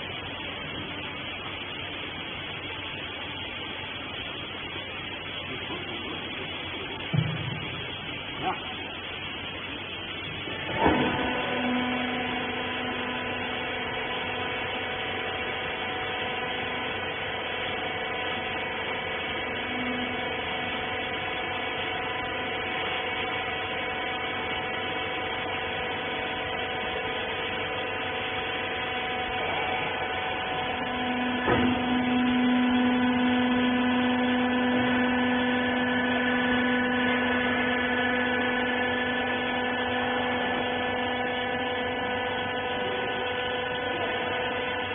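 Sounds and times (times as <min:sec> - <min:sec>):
electric motor and pump humming: 0:00.0 - 0:44.9
lower hum: 0:00.0 - 0:44.9.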